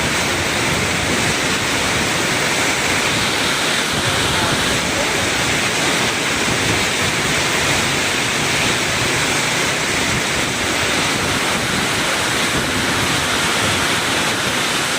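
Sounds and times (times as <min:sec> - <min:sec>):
heavy rain pouring: 0:00.0 - 0:14.9
strong wind: 0:00.0 - 0:14.9.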